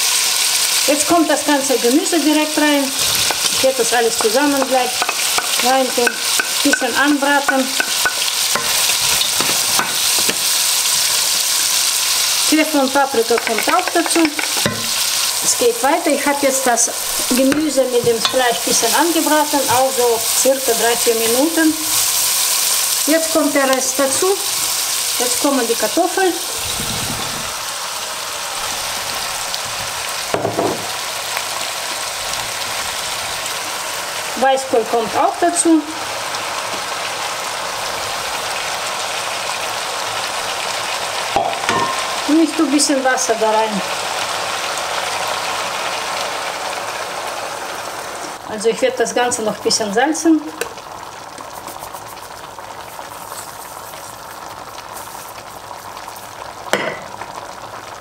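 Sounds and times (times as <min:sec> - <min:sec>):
meat and vegetables sizzling in pot: 0:00.0 - 0:58.0.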